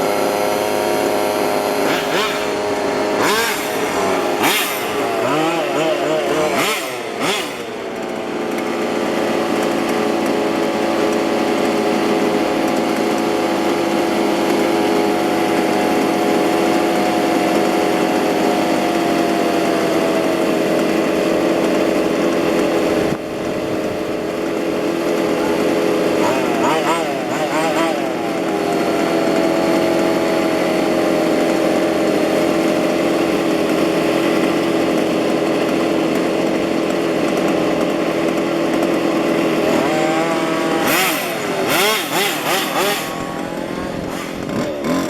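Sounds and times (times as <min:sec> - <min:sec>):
small two-stroke engines running: 0:00.0 - 0:45.0.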